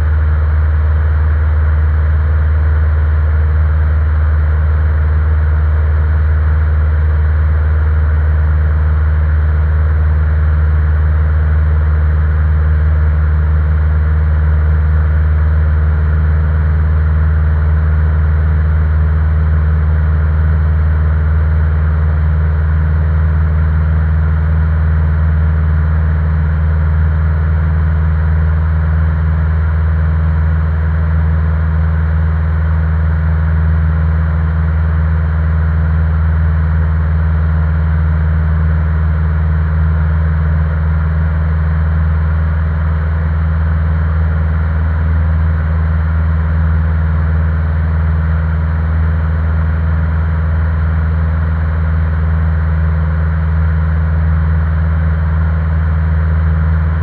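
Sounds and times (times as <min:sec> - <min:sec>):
propeller aircraft engine drone: 0:00.0 - 0:57.0.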